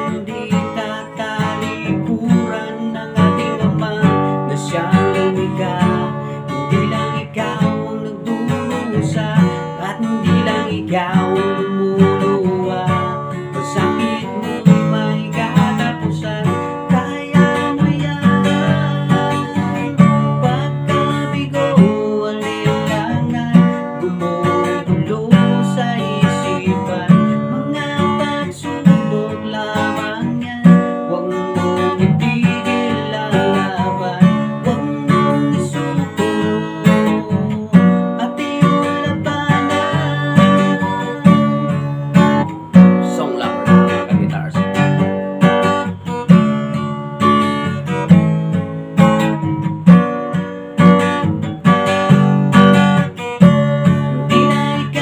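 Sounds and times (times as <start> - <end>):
acoustic guitar strummed: 0.0 - 55.0
man singing: 0.0 - 55.0.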